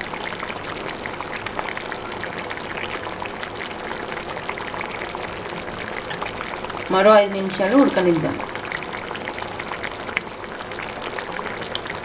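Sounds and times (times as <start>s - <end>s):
gravy bubbling and popping: 0.0s - 12.0s.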